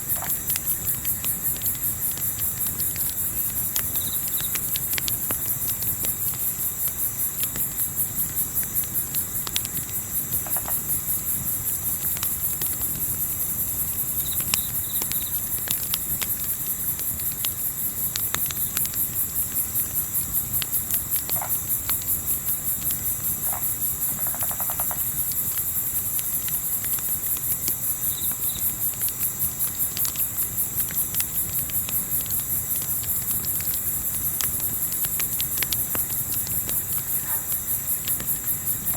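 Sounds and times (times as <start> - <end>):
campfire crackling and popping: 0.0 - 38.9
crickets chirping: 0.0 - 38.9.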